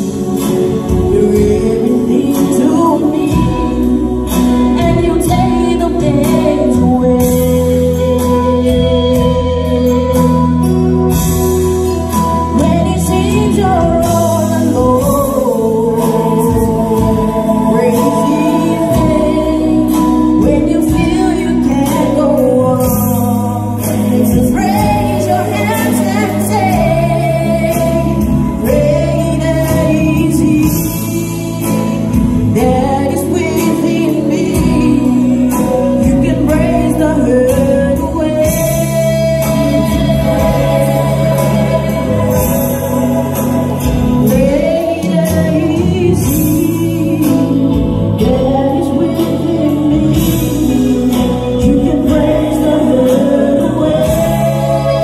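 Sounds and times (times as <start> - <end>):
drums: 0.0 - 55.0
keyboard: 0.0 - 55.0
live band playing: 0.0 - 55.0
woman singing gospel song: 0.0 - 55.0.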